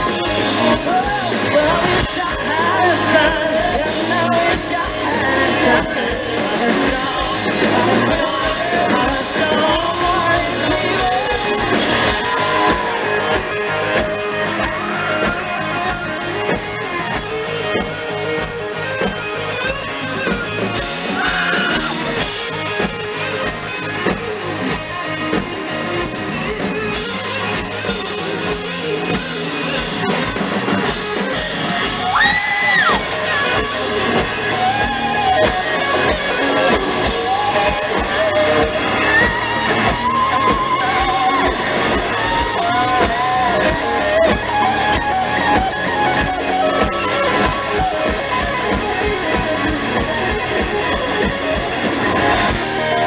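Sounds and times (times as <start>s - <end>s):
live band with guitar and drums: 0.0s - 53.0s
melodic lead lines: 0.0s - 53.0s.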